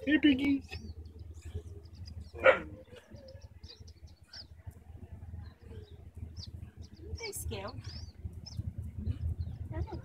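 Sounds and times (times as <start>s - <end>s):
faint high chirps and squeaks: 0.4s - 10.0s.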